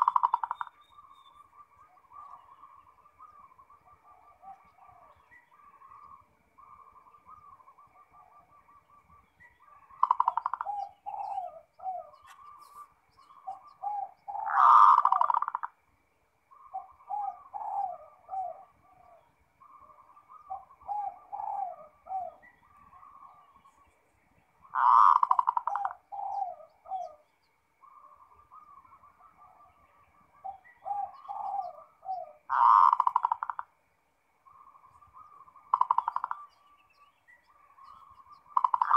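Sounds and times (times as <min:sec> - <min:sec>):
dove cooing: 0:00.0 - 0:15.8, 0:16.5 - 0:23.9, 0:24.6 - 0:33.8, 0:34.4 - 0:36.7, 0:37.4 - 0:38.9.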